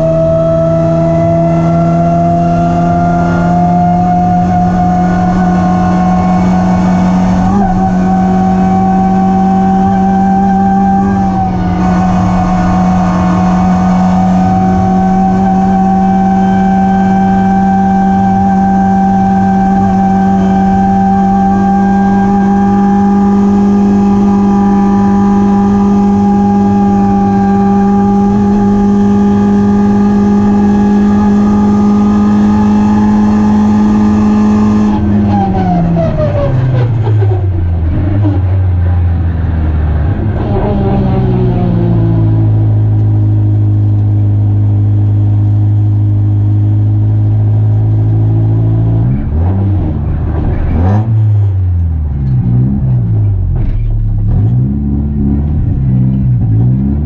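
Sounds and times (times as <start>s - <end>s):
race car engine revving high: 0.0s - 57.0s.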